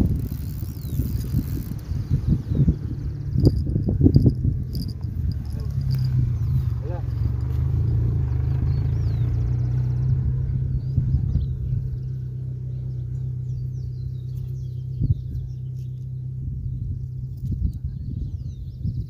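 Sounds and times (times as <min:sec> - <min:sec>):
wind buffeting microphone: 0:00.0 - 0:19.0
birds chirping faintly: 0:00.2 - 0:19.0.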